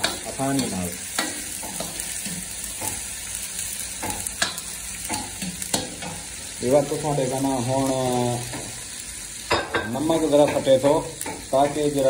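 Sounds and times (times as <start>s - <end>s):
onions and tomatoes sizzling: 0.0s - 12.0s.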